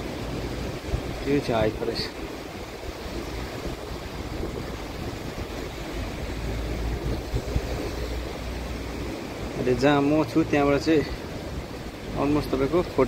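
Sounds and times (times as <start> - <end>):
hissing outdoor rush: 0.0 - 13.0
wind gusting on microphone: 0.0 - 13.0.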